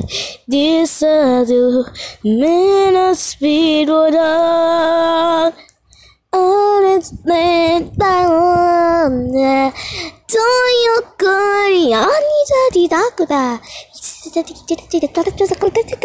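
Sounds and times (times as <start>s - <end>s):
girl singing wordless tune: 0.0s - 16.0s.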